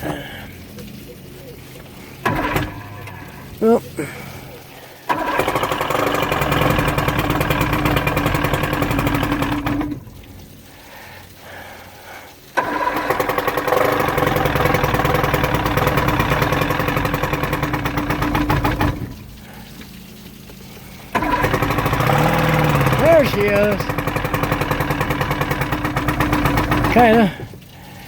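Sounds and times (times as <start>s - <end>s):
outboard motor electric starter cranking: 1.9s - 4.2s, 5.0s - 28.0s.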